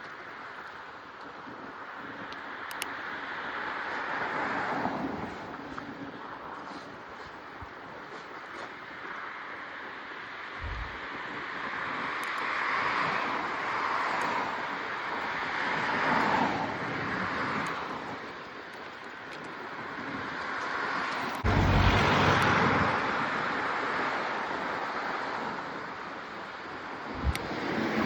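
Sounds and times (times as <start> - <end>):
wind buffeting microphone: 3.5 - 28.0.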